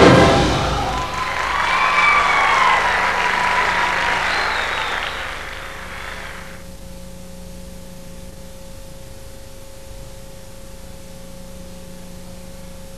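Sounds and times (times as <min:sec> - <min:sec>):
tape hiss: 0:00.0 - 0:12.9.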